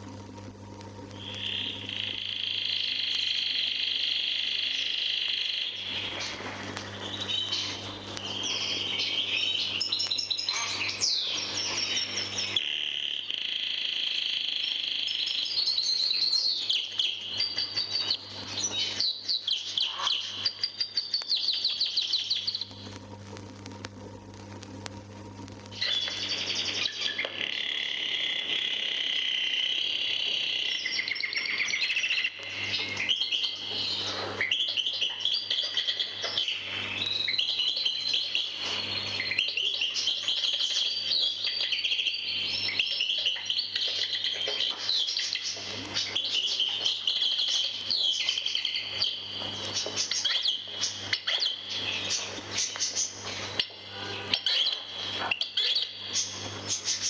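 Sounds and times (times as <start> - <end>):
low recording hum: 0.0 - 12.6, 15.3 - 57.0
goldfinch twittering and trilling: 1.2 - 3.7, 4.7 - 12.6, 14.6 - 22.8, 25.8 - 57.0.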